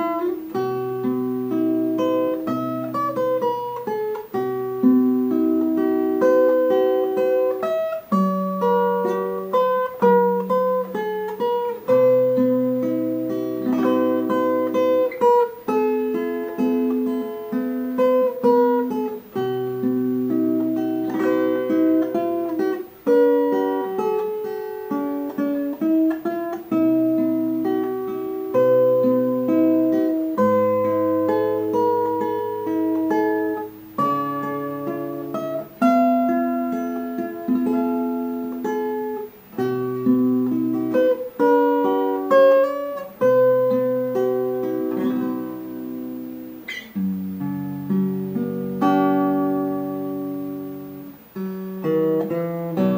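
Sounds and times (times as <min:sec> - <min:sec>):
acoustic guitar music: 0:00.0 - 0:52.9.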